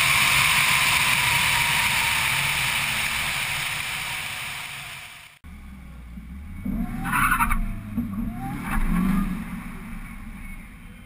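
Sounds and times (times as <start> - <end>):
car engine revving: 0.0 - 11.0
engine idle rumble: 0.0 - 11.0.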